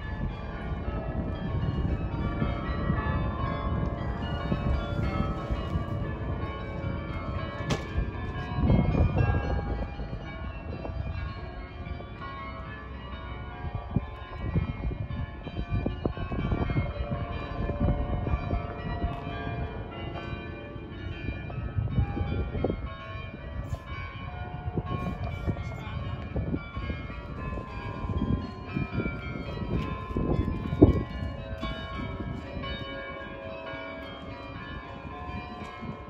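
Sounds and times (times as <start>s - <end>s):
church bells ringing: 0.0s - 36.0s
wind buffeting microphone: 0.0s - 36.0s.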